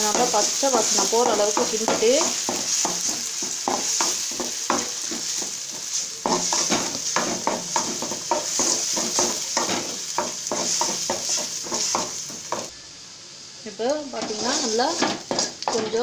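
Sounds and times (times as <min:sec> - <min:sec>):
metal spoon scraping pan: 0:00.0 - 0:12.7, 0:14.2 - 0:16.0
paste sizzling in oil: 0:00.0 - 0:16.0.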